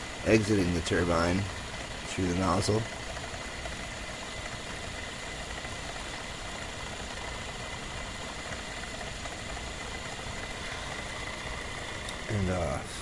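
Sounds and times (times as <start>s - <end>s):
motor and turbine whirring: 0.0s - 13.0s
thin high whine: 0.0s - 13.0s.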